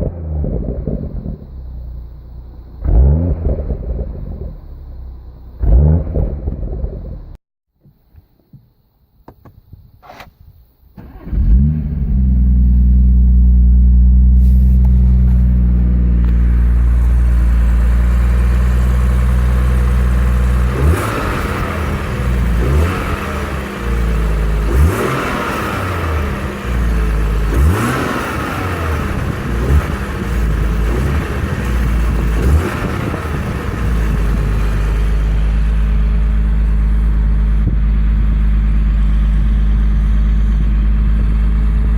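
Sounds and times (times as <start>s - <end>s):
car engine idling: 0.0s - 7.4s, 11.0s - 41.9s
car engine starting: 0.0s - 7.4s, 10.0s - 10.4s, 11.0s - 41.9s
engine revving: 0.0s - 7.4s, 11.0s - 41.9s.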